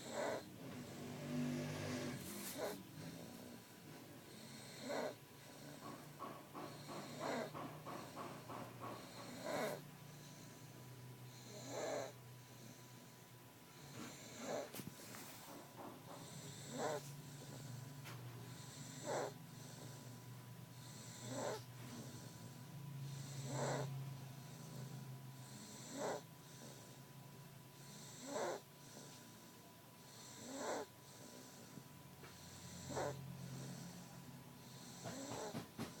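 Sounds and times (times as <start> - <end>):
snoring: 0.0 - 27.1, 27.7 - 36.0.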